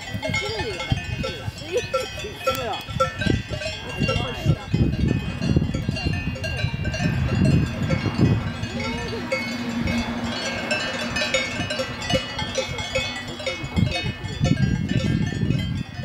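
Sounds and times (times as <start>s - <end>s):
cowbells clanking: 0.0s - 16.0s.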